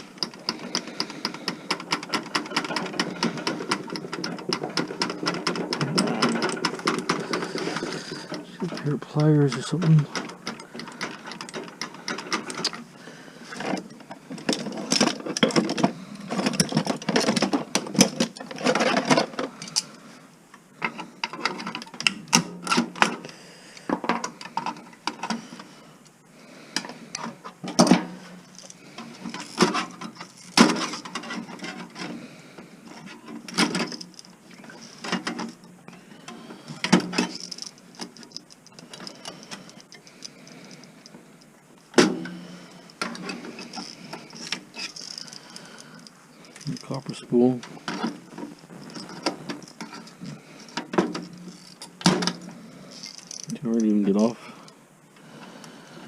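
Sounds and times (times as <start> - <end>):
hand tools clicking and scraping: 0.0 - 56.0.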